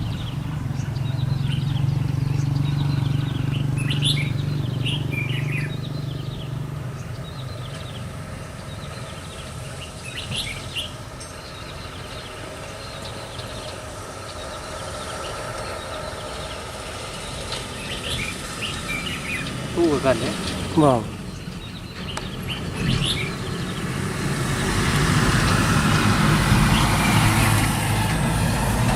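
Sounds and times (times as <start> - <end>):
small birds chirping: 0.0 - 28.8.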